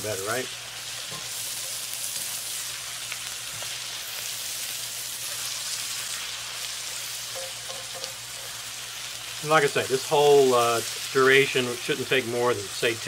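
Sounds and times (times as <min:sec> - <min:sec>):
cabbage sizzling in skillet: 0:00.0 - 0:13.0
spatula stirring in skillet: 0:00.1 - 0:11.2.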